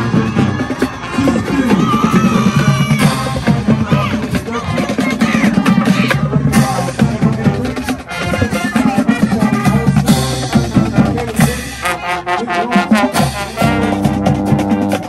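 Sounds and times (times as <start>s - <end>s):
marching band brass: 0.0s - 15.0s
snare and bass drums: 0.0s - 15.0s.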